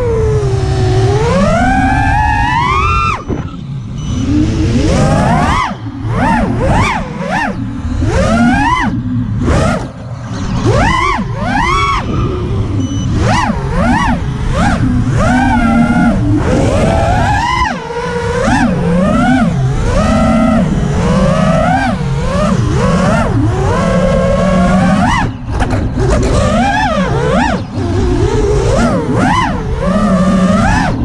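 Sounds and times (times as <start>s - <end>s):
drone motors whining: 0.0s - 31.0s.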